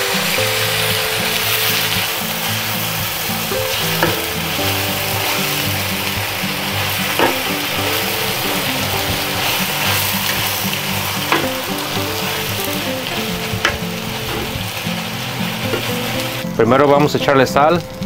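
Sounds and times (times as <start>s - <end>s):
meat sizzling in hot oil: 0.0s - 16.6s.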